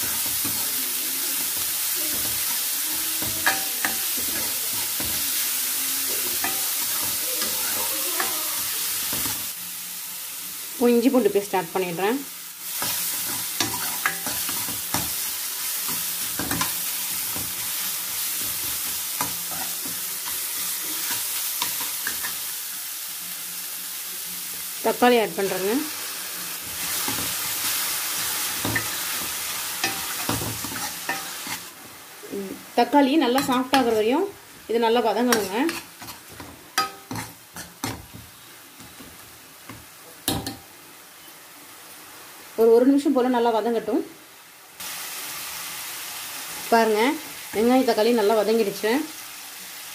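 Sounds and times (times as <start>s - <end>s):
onions sizzling in oil: 0.0s - 49.9s.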